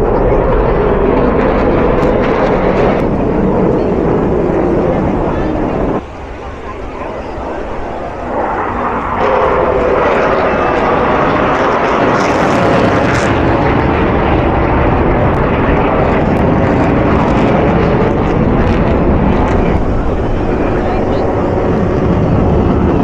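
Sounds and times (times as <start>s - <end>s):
fighter jet flying past: 0.0s - 23.0s.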